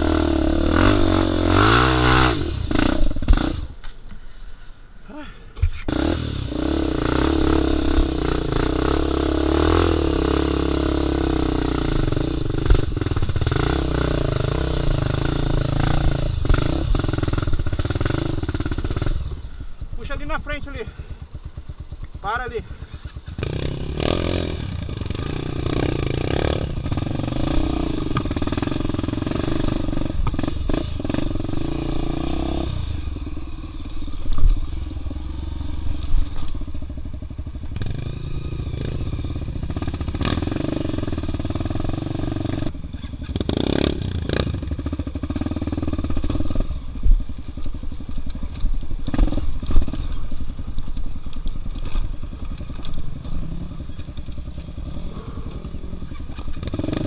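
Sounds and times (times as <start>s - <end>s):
dirt bike engine revving: 0.0s - 3.8s, 5.9s - 57.0s.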